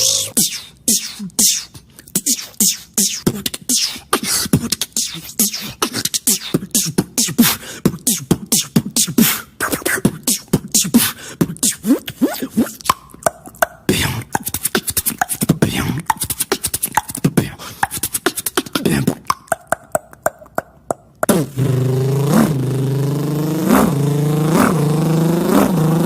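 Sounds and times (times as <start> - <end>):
person beatboxing: 0.0 - 26.0.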